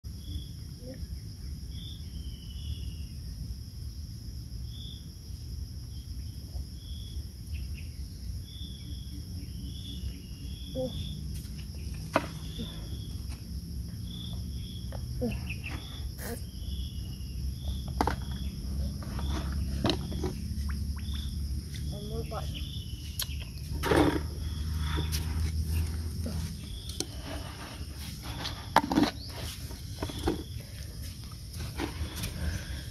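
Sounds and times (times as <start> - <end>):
insects chirping: 0.0 - 32.9.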